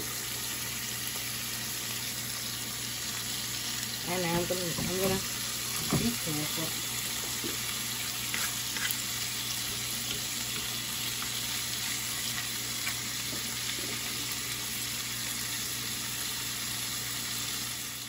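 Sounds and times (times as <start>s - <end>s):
bacon sizzling in a frying pan: 0.0s - 18.0s.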